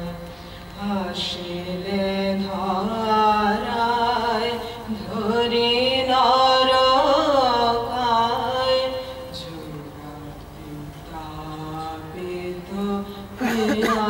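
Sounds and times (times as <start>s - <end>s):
men singing a devotional chant: 0.8s - 14.0s.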